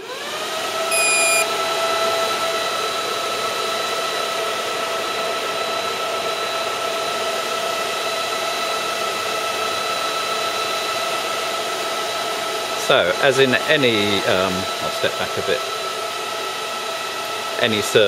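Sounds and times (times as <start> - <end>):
high-pitched fan whine: 0.0 - 18.0
server cooling fans running: 0.0 - 18.0.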